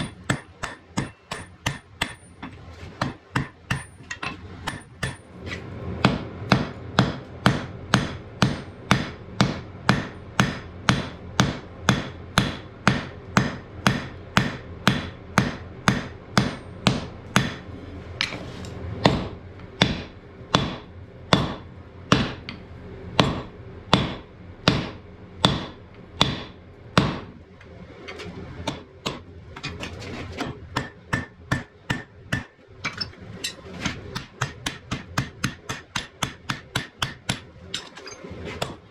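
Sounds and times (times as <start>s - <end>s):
hammer striking iron on anvil: 0.0s - 5.3s, 6.0s - 18.4s, 19.0s - 22.6s, 23.2s - 27.3s, 28.6s - 29.2s, 30.4s - 38.9s.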